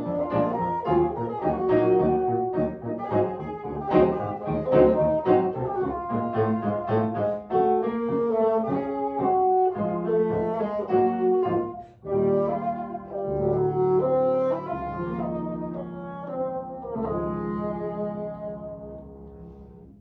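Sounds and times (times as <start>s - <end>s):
brass-led instrumental music: 0.0s - 20.0s.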